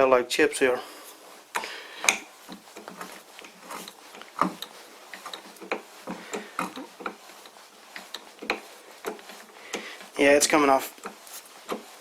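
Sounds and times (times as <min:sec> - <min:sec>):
metal clicks and scrapes: 0:02.0 - 0:12.0.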